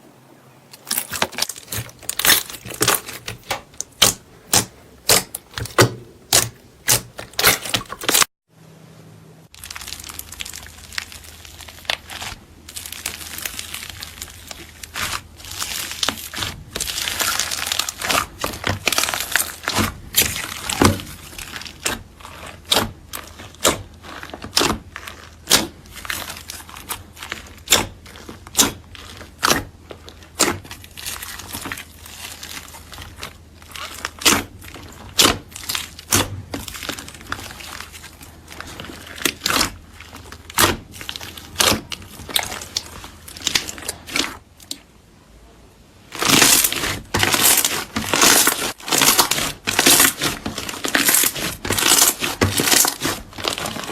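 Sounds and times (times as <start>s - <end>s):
crackly crinkling slime: 0.4s - 8.3s, 9.5s - 45.0s, 45.9s - 53.9s.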